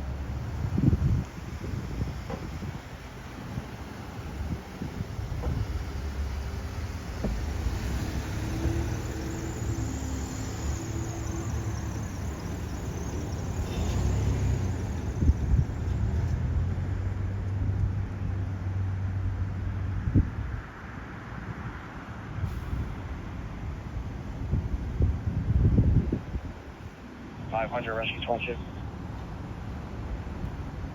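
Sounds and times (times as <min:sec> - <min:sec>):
fire engine engine rumbling: 0:00.0 - 0:20.5, 0:22.2 - 0:30.9.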